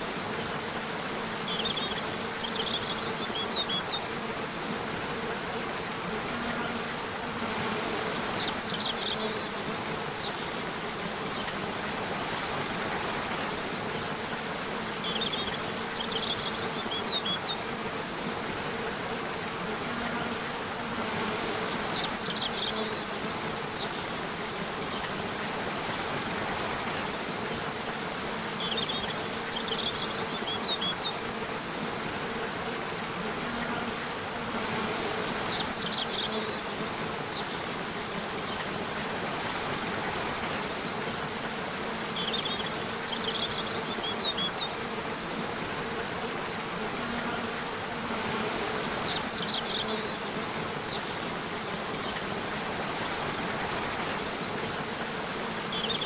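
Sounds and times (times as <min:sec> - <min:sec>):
flowing water: 0:00.0 - 0:56.0
insect buzzing: 0:00.0 - 0:56.0.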